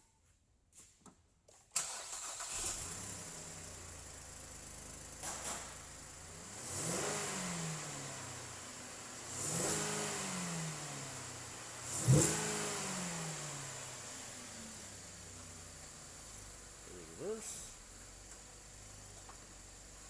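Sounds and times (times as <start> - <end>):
car engine idling and revving: 1.8 - 20.0.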